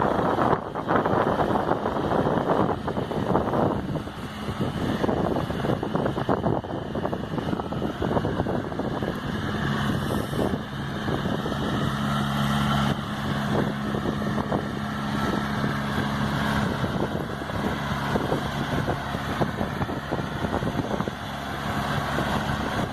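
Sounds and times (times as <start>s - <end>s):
tractor engine hum: 0.0s - 22.9s.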